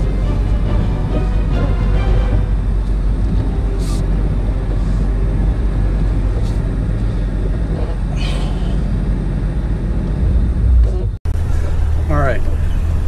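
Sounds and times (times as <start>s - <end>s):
truck driving on dirt: 0.0s - 13.0s.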